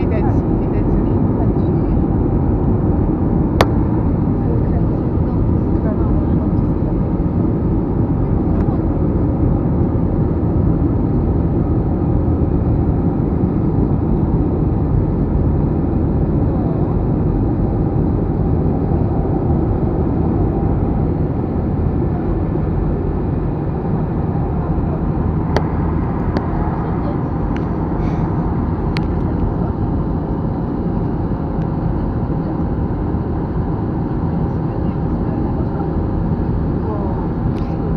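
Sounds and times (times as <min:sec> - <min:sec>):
jet engine and airflow roar: 0:00.0 - 0:37.9.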